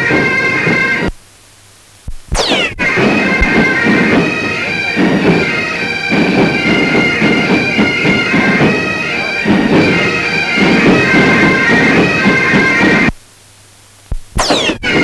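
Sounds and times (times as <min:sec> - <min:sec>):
bagpipes playing a march: 0:00.0 - 0:01.1, 0:02.4 - 0:13.2, 0:14.6 - 0:15.0.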